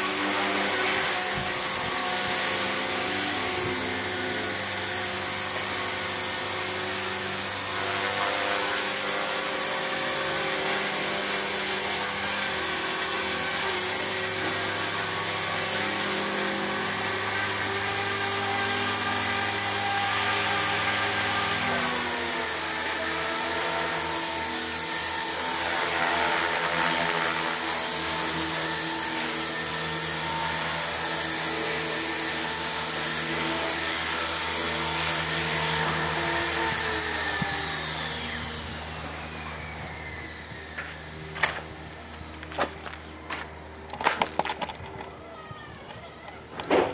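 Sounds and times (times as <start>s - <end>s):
rc helicopter motor whine: 0.0s - 46.9s.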